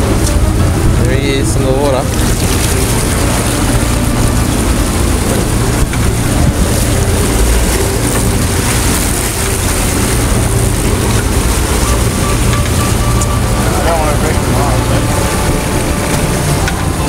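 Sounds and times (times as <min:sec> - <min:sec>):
boat engine humming: 0:00.0 - 0:17.0
water noise: 0:00.0 - 0:17.0
wind on microphone: 0:00.0 - 0:17.0.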